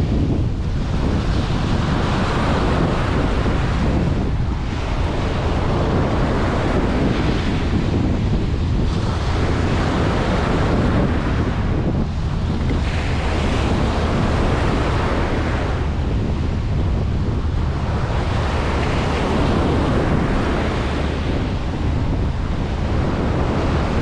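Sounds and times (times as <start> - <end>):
ocean waves breaking on beach: 0.0 - 24.0
wind rumbling on microphone: 0.0 - 24.0.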